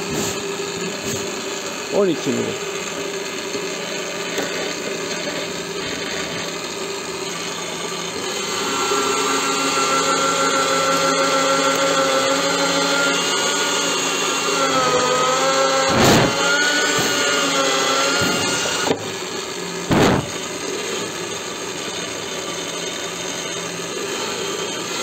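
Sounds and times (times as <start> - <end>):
electric drill cutting into wood: 0.0 - 25.0.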